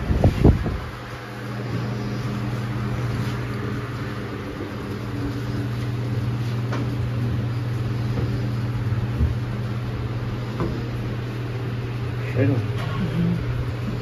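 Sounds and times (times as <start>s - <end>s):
ventilation fans humming: 0.0s - 14.0s.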